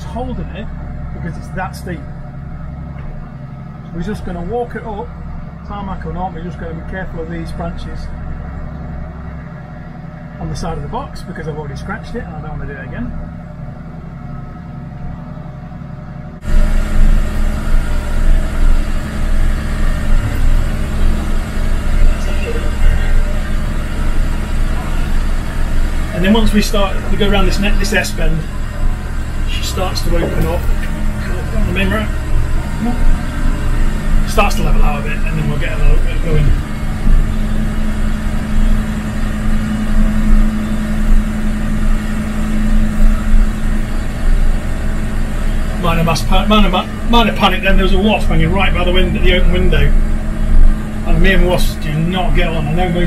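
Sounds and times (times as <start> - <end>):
truck diesel engine pulling uphill: 0.0 - 53.0.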